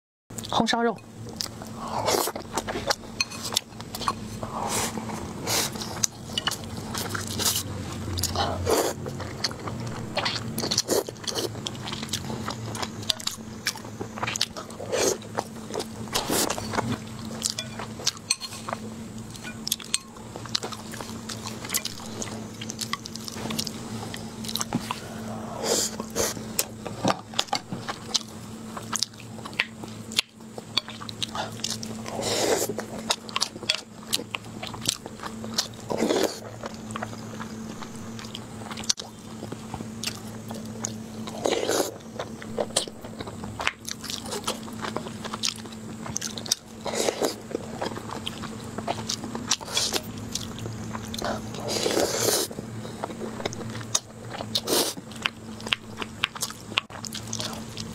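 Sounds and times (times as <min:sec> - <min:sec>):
chewing and biting food: 0:01.2 - 0:57.9.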